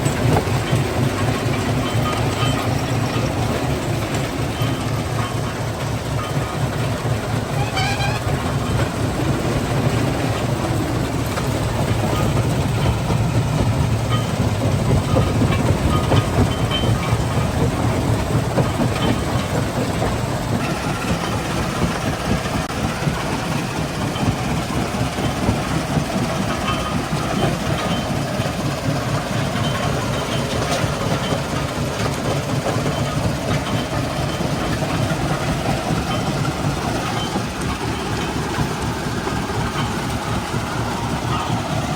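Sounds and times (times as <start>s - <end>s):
rock crushing machinery rumbling: 0.0s - 41.9s.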